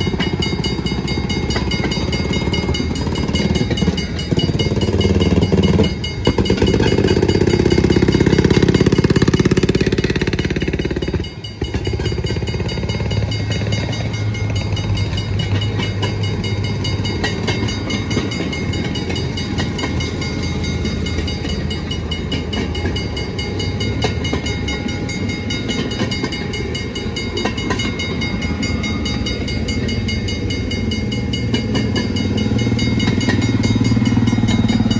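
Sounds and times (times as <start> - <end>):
small engines puttering: 0.0 - 34.9
steel wheels clicking over rail: 0.0 - 34.9.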